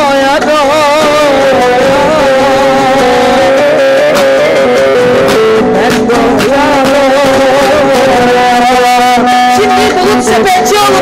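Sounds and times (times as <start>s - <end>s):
loud amplified music with held notes: 0.0s - 11.0s.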